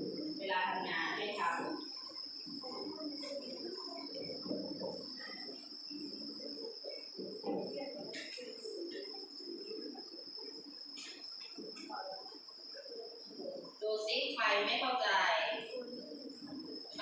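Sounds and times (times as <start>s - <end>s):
high-pitched insect trill: 0.0s - 17.0s
murmur of children's voices: 0.0s - 17.0s.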